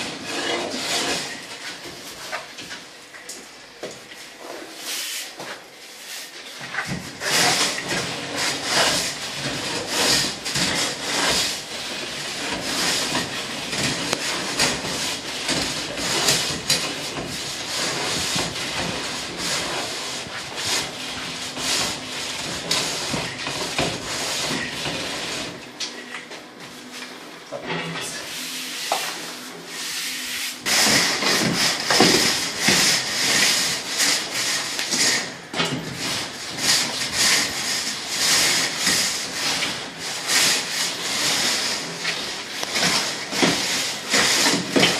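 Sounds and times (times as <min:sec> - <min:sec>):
metal straightedge scraping cement: 0:00.0 - 0:02.8, 0:04.4 - 0:26.2, 0:27.5 - 0:44.9.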